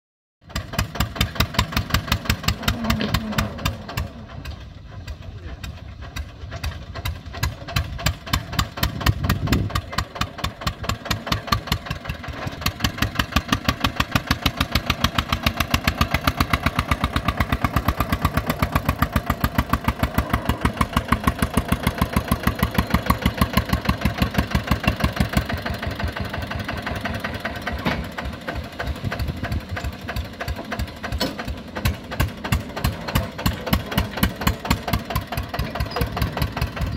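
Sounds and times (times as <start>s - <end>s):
tractor diesel engine running: 0.4s - 36.9s.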